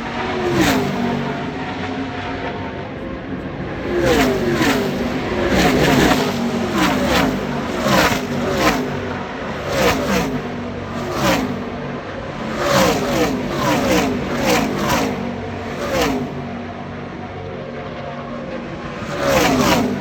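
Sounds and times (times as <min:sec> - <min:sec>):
race truck engines passing: 0:00.0 - 0:16.9, 0:18.7 - 0:20.0.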